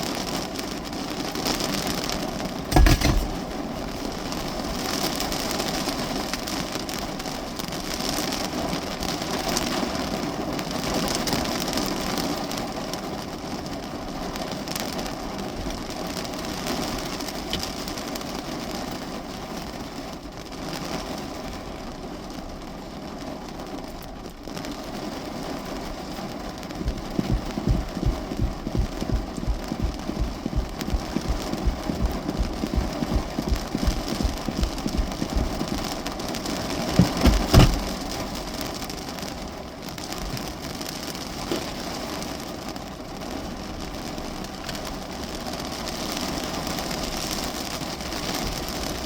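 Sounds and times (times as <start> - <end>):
rain on car roof: 0.0 - 49.0.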